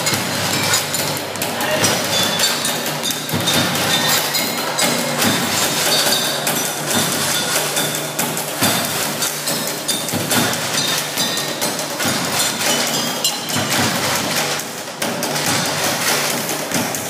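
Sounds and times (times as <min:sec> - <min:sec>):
basketballs dribbled as a beat: 0:00.0 - 0:17.0.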